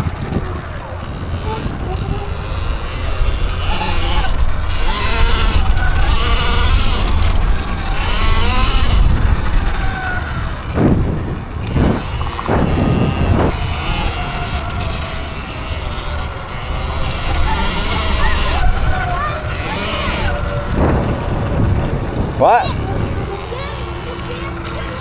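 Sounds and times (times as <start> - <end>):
electric motor whining: 0.0 - 25.0
wind rumble on microphone: 0.0 - 25.0.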